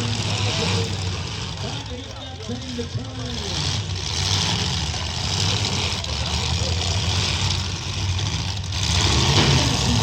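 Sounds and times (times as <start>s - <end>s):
truck engines rumbling: 0.0s - 10.0s.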